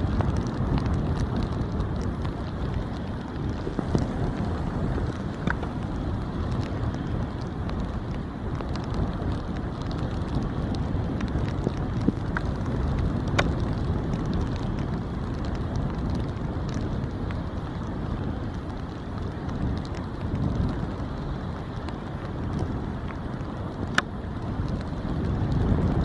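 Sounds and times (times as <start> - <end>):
faint ticks: 0.0 - 17.9, 21.7 - 26.0
wind buffeting microphone: 0.0 - 26.0.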